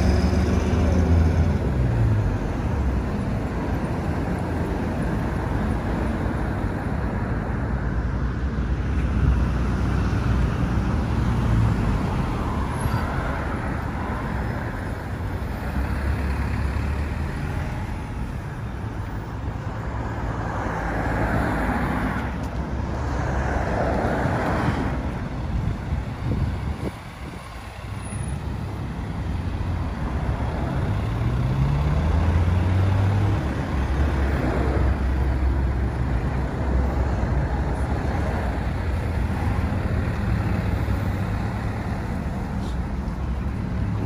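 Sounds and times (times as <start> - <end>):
street traffic rumble: 0.0 - 44.0.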